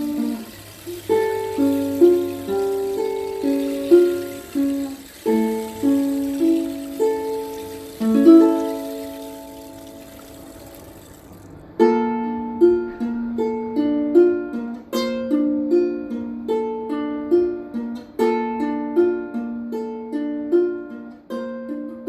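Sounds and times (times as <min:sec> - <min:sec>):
plucked string instrument: 0:00.0 - 0:22.0.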